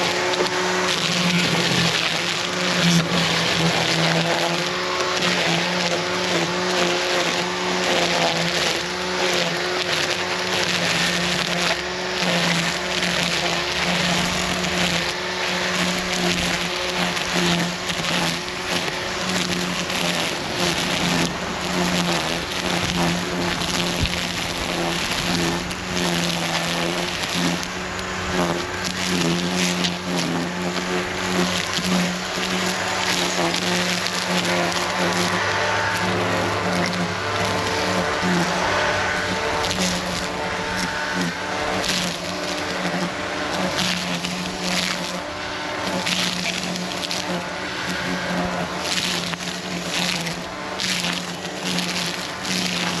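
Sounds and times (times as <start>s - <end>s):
electric motor humming: 0.0s - 53.0s
rough hissing cutting noise: 0.0s - 53.0s.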